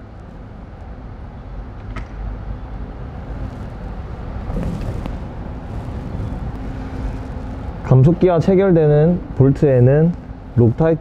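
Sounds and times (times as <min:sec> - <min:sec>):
low workshop rumble: 0:00.0 - 0:11.0.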